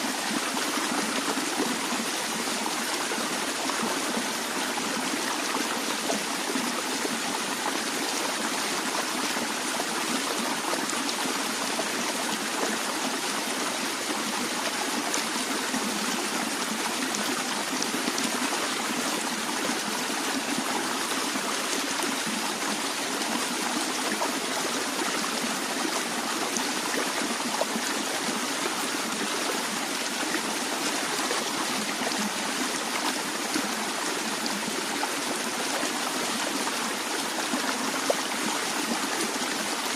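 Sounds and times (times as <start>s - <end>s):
water flowing over rocks: 0.0s - 39.9s.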